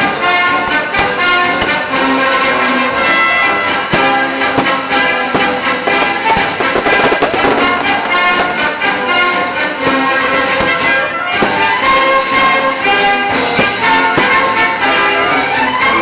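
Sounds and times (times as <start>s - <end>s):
fireworks banging: 0.0s - 15.8s
orchestral music with brass: 0.0s - 16.0s.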